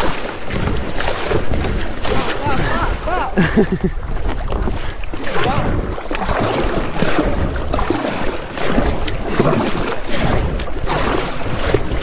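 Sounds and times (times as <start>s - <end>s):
paddle blades splashing: 0.0s - 12.0s.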